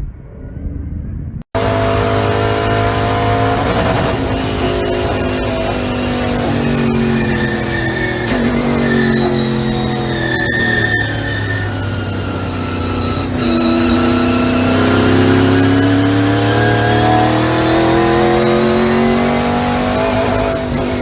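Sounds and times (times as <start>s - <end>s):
race car engine accelerating: 1.5s - 21.0s.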